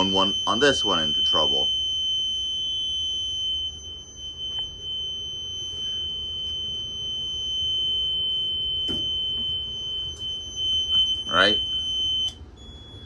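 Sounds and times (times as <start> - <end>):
alarm panel buzzer tone: 0.0 - 13.0.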